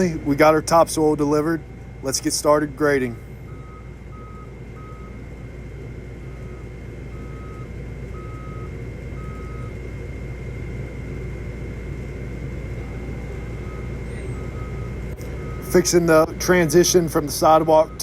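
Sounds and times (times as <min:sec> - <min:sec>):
reversing alarm beeps: 0:00.0 - 0:05.4, 0:06.2 - 0:10.2, 0:12.8 - 0:18.0
skid steer engine running: 0:00.0 - 0:18.0.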